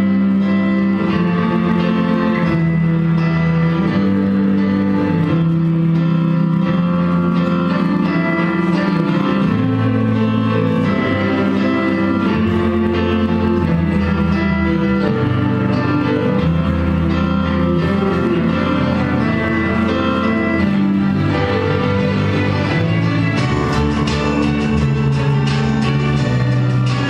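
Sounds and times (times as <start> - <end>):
held low notes: 0.0 - 27.0
plucked string melody: 0.0 - 27.0.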